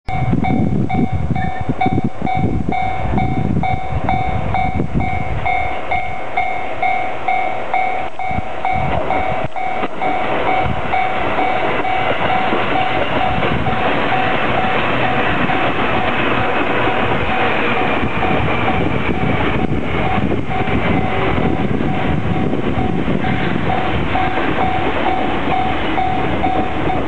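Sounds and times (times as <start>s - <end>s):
level crossing alarm dinging: 0.1s - 27.0s
train rumbling past: 0.1s - 27.0s.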